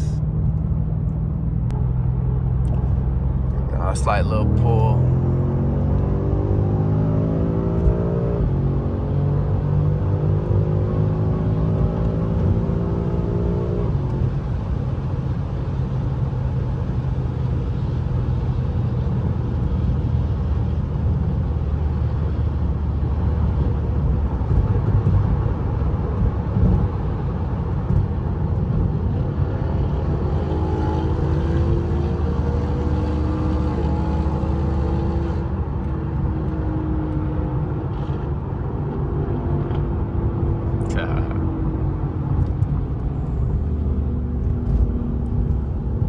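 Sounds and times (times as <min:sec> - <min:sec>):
car engine accelerating: 0:00.0 - 0:46.0
road noise: 0:00.0 - 0:46.0.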